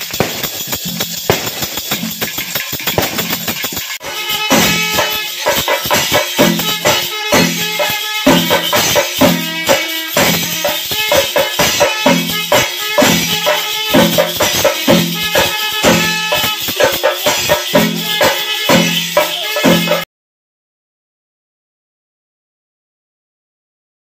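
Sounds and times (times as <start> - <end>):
metallic jingling and rattling: 0.0 - 20.0
drums beaten in a pattern: 0.0 - 20.1.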